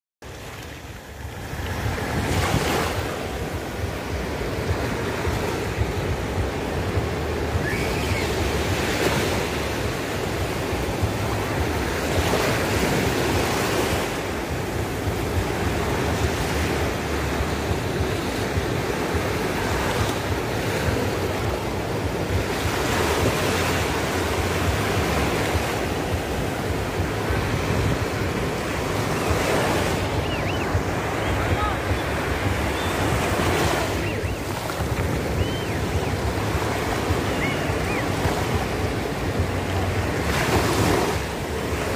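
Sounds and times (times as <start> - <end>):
waves breaking on beach: 0.2 - 41.9
wind buffeting microphone: 0.6 - 41.9.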